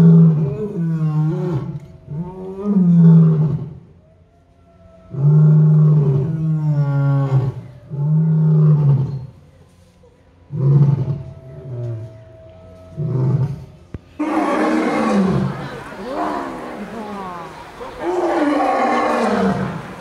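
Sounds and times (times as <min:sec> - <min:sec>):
lion roaring: 0:00.0 - 0:03.8, 0:05.0 - 0:09.3, 0:10.5 - 0:20.0.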